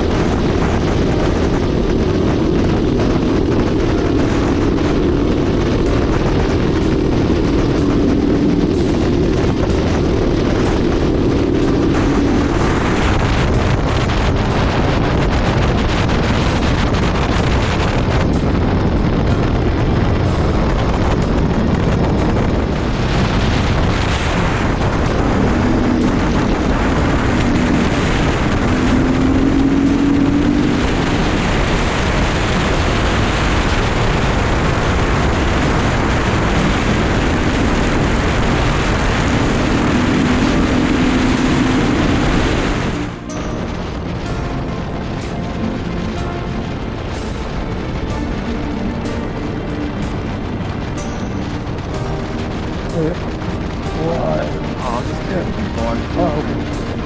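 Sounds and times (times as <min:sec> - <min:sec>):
music: 0:00.0 - 0:57.0
wind rush on microphone: 0:00.0 - 0:57.0.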